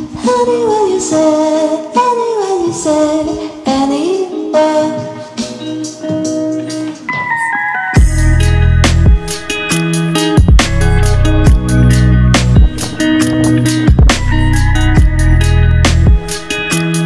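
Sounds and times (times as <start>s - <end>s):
song with steady beat: 0.0s - 17.0s.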